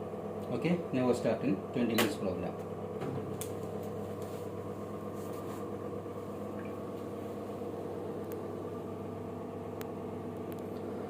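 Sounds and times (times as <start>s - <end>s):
washing machine hum: 0.0s - 11.0s.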